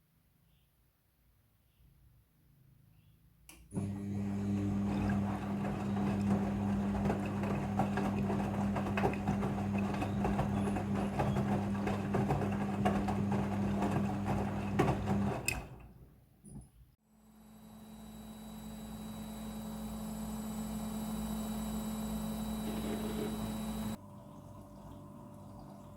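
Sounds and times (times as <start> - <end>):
washing machine electric hum: 3.7 - 25.9.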